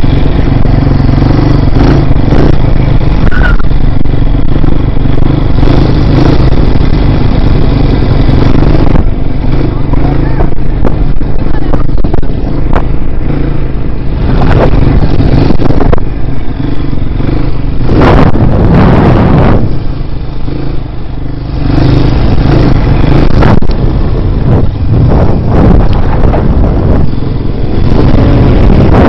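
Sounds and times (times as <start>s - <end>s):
dirt bike engine running: 0.0s - 29.0s
wind rushing noise: 0.0s - 29.0s.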